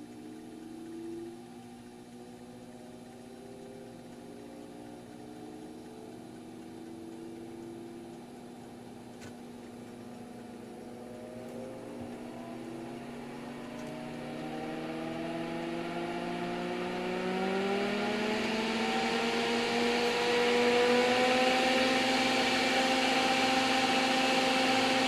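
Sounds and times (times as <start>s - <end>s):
fan whirring whine: 0.0s - 25.0s.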